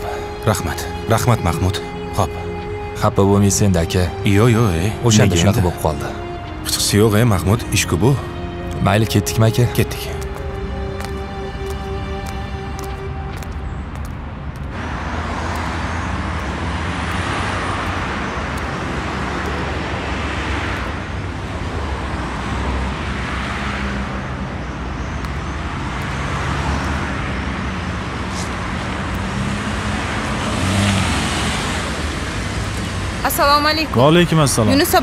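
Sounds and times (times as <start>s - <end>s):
cars passing: 0.0s - 35.0s
steady traffic hum: 0.0s - 35.0s.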